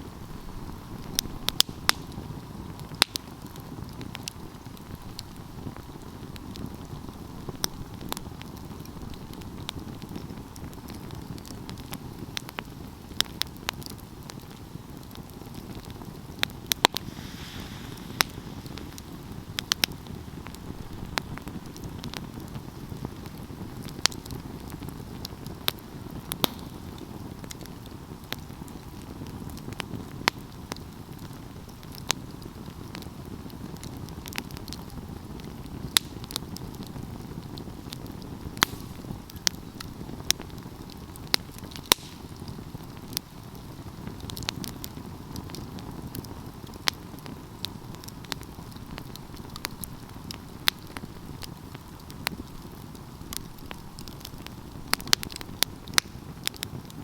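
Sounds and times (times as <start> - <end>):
low rush of flames: 0.0 - 57.0
wood fire crackling and popping: 0.0 - 57.0.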